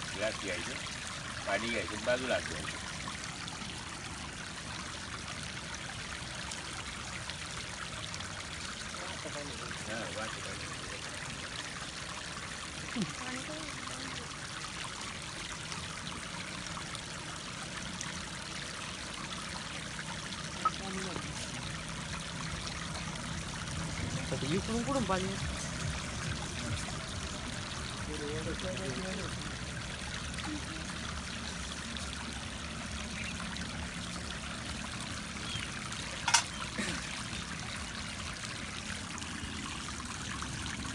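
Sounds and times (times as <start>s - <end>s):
water trickling over stone: 0.0s - 40.9s.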